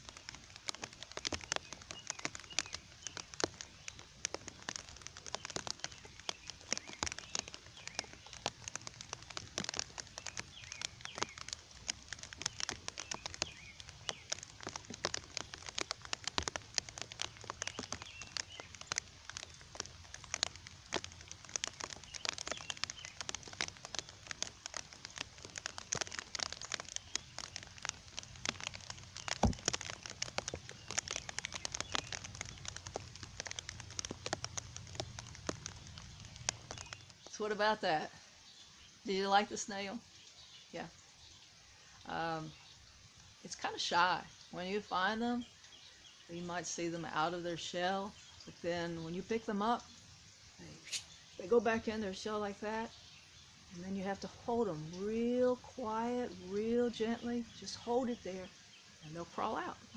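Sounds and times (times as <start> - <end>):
rain drops ticking: 0.0 - 59.9.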